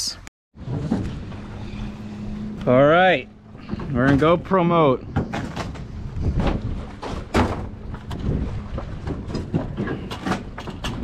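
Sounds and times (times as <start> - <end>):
low rumble: 0.6 - 10.1.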